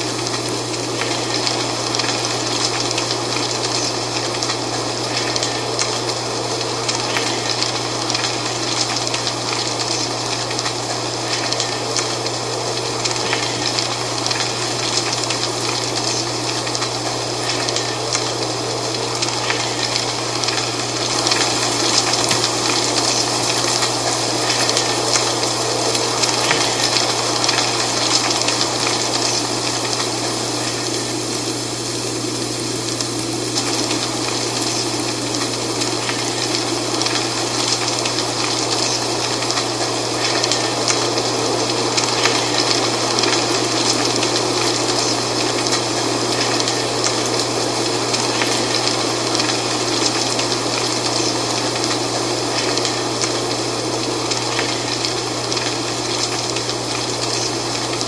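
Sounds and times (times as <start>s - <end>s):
dry leaves rustling and crackling: 0.0s - 58.0s.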